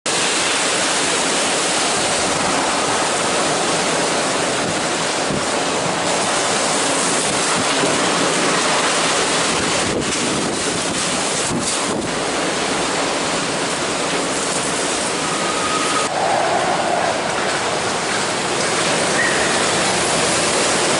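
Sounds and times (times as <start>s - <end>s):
storm wind blowing through trees: 0.1s - 20.9s.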